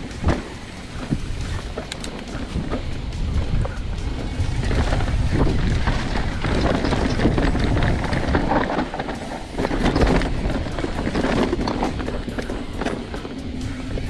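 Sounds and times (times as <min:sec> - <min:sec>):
bike knocks and rattles: 0:00.0 - 0:14.0
bike tyres rumbling on dirt: 0:00.0 - 0:14.0
wind buffeting microphone: 0:00.0 - 0:14.0.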